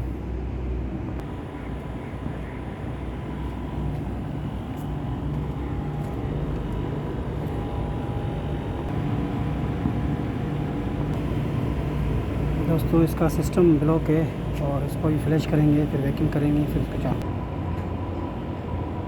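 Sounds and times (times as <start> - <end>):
faint steady whine: 0.0 - 19.0
low mechanical hum: 0.0 - 19.0.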